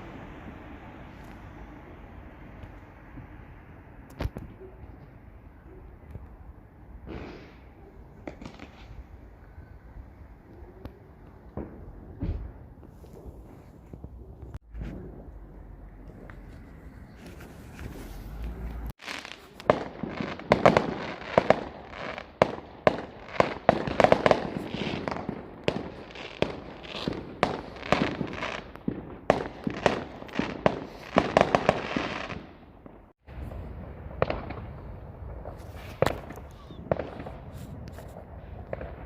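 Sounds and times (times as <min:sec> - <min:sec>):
fireworks bangs and crackles: 0:00.0 - 0:17.4, 0:18.7 - 0:39.0
faint fireworks pops: 0:02.5 - 0:39.0.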